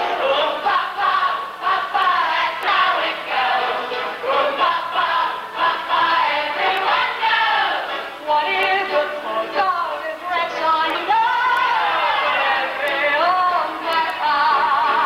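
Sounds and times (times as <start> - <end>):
ensemble singing in chorus: 0.0 - 15.0
musical accompaniment: 0.0 - 15.0.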